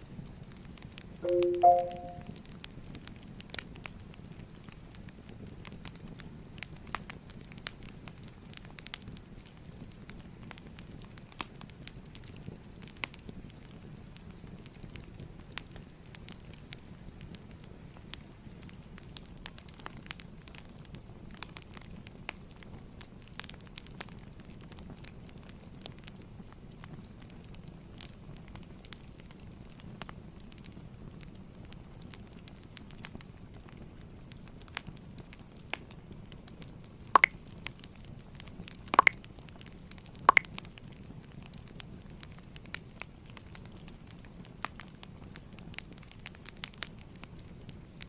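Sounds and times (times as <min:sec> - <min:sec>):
fireplace fire crackling: 0:00.0 - 0:48.0.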